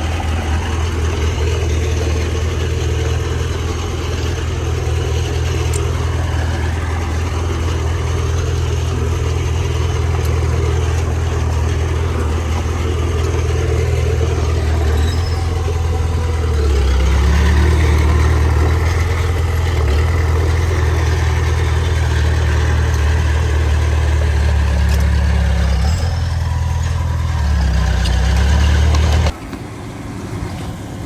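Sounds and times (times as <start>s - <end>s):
heavy diesel engine rumbling: 0.0s - 31.0s.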